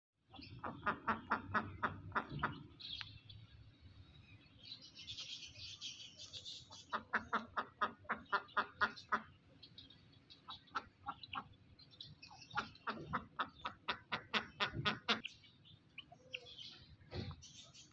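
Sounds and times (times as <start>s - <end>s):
hen clucking: 0.3s - 3.1s, 6.3s - 17.9s.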